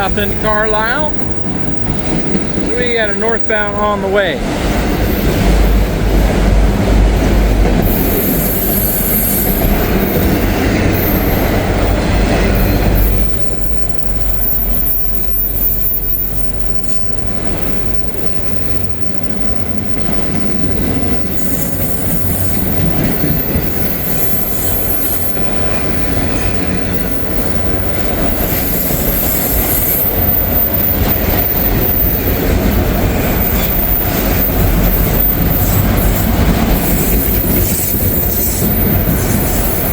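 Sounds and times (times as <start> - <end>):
freight train rumbling: 0.0 - 39.9
train wheels squealing: 7.8 - 39.9.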